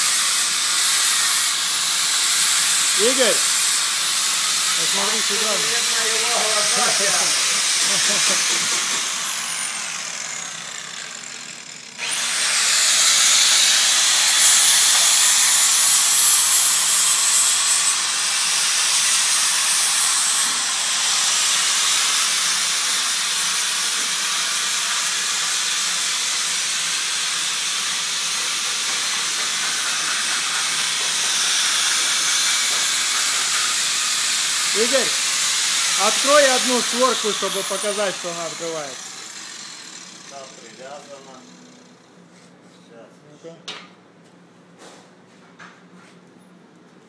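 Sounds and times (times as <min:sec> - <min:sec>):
angle grinder grinding steel: 0:00.0 - 0:42.1
angle grinder whine: 0:00.0 - 0:42.1.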